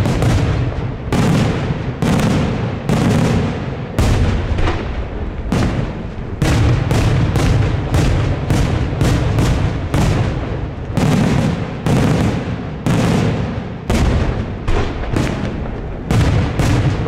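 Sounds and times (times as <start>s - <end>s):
fireworks bursting with loud bangs: 0.0s - 17.0s
low rumbling echo: 0.0s - 17.0s.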